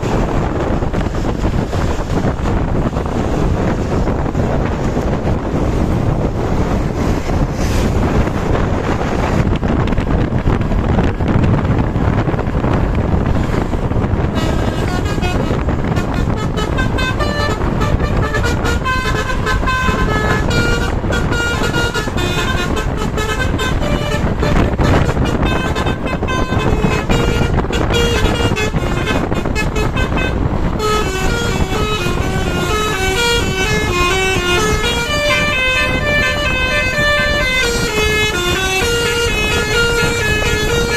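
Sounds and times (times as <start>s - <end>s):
bus musical horn melody: 0.0s - 11.0s, 11.9s - 40.9s
wind and road noise: 0.0s - 40.9s.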